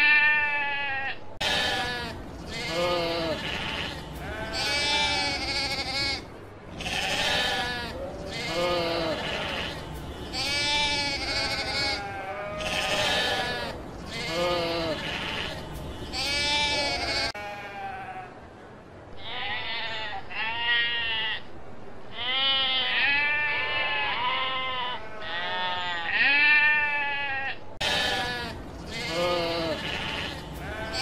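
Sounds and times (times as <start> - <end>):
sheep bleating: 0.0 - 18.3, 22.2 - 31.0.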